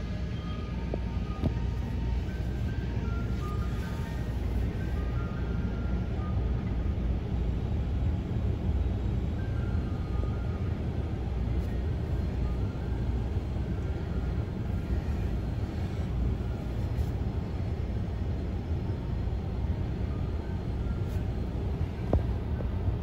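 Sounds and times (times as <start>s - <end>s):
car cabin engine hum: 0.0s - 7.2s, 9.4s - 23.0s.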